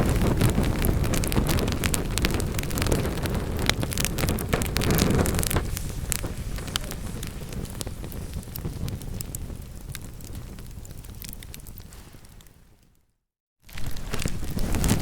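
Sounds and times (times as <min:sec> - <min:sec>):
roar of flames: 0:00.0 - 0:12.9, 0:13.7 - 0:15.0
wood fire crackling and popping: 0:00.0 - 0:13.0, 0:13.6 - 0:15.0.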